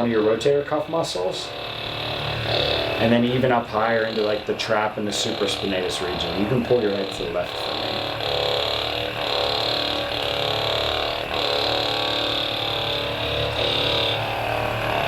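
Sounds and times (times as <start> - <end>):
massage gun buzzing: 0.0 - 15.0.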